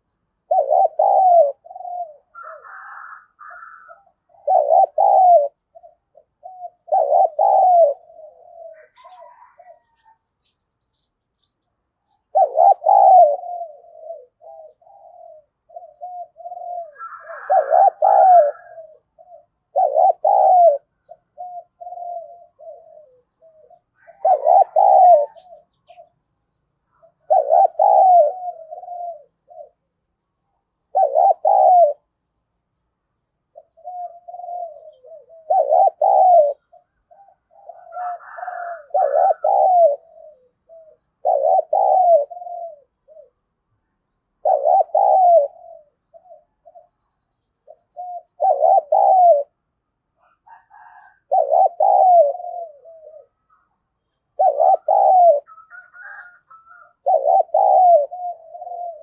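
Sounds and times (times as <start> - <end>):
dove cooing: 0.0 - 32.5, 33.2 - 59.0.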